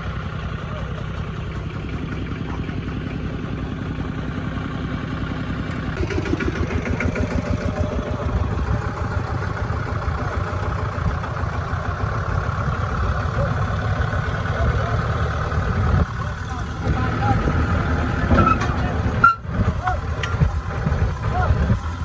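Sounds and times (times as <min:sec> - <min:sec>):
engine running with low pulsing: 0:00.0 - 0:22.0.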